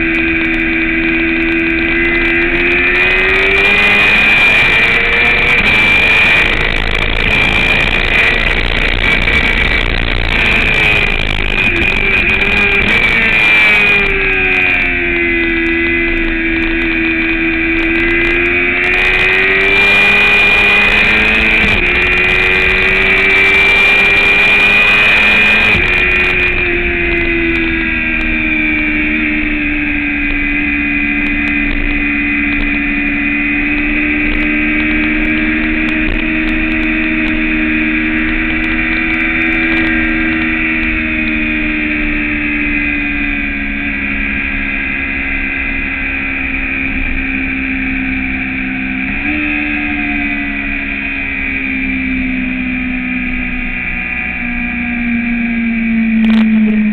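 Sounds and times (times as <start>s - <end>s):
wind rush: 0.0s - 47.6s
motorcycle engine revving: 0.0s - 56.9s.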